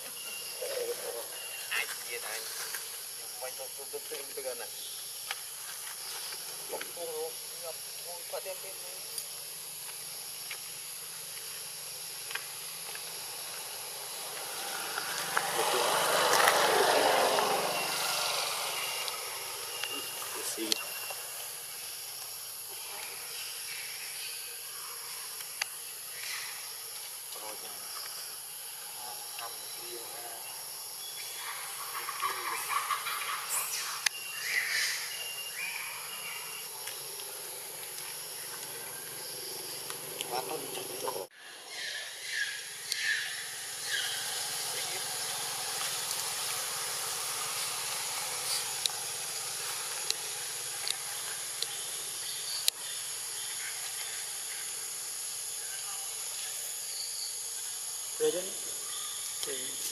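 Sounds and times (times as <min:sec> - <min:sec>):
high outdoor hiss: 0:00.0 - 0:59.9
high-pitched insect drone: 0:00.0 - 0:59.9.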